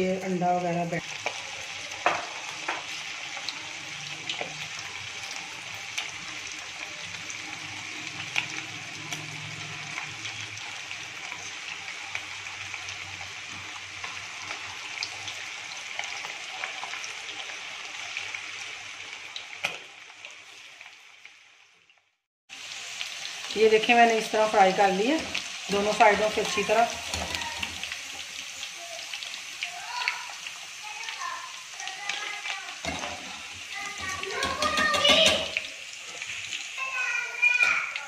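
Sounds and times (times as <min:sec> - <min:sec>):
chicken sizzling in oil: 0:00.0 - 0:38.0
oil popping and crackling: 0:00.9 - 0:21.4, 0:24.7 - 0:38.0.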